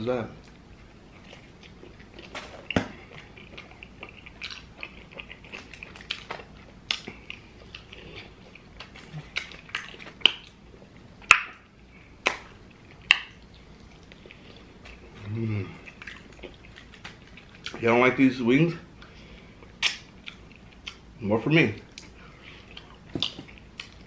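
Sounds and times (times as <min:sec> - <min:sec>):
chewing and lip-smacking: 0:00.4 - 0:17.8, 0:19.0 - 0:21.1, 0:21.8 - 0:24.0.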